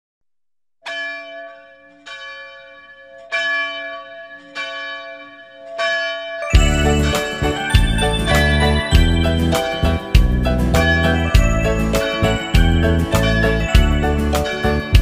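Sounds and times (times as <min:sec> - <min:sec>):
church bell tolling: 0:00.9 - 0:15.0.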